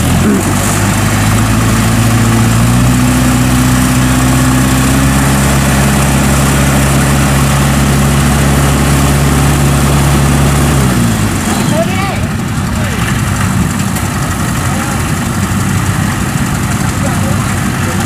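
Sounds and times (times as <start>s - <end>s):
diesel engine running under load: 0.0s - 18.0s.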